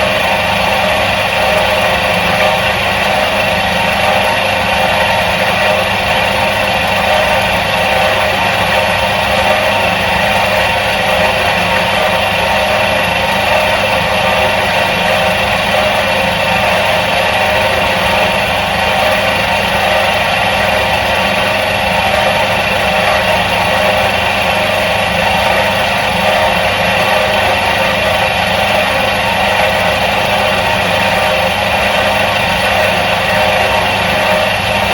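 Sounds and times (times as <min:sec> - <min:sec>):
washing machine motor humming: 0:00.0 - 0:34.9.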